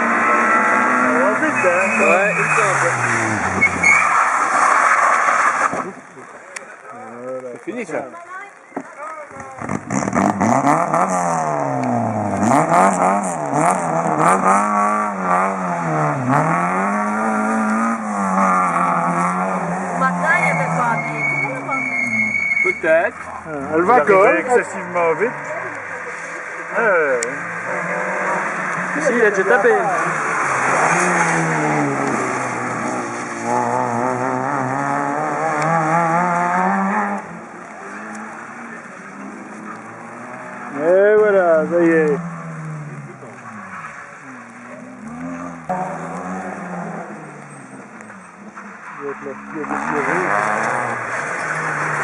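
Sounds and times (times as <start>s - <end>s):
rally car engine at high revs: 0.0s - 6.0s, 9.6s - 52.0s.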